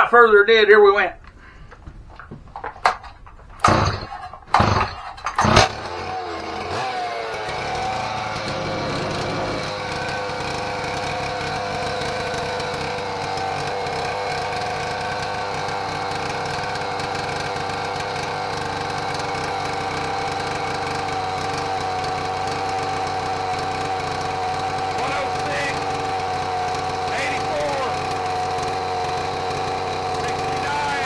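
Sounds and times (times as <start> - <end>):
two-stroke chainsaw engine running: 3.6 - 31.0.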